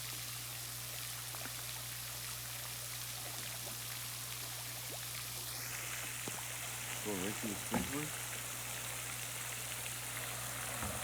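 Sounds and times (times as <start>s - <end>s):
sprinkler water pattering on pond: 0.0s - 11.0s.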